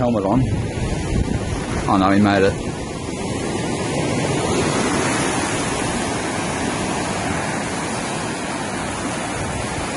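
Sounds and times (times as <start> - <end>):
ocean surf washing onto beach: 0.0 - 9.9
wind on microphone: 0.0 - 9.9.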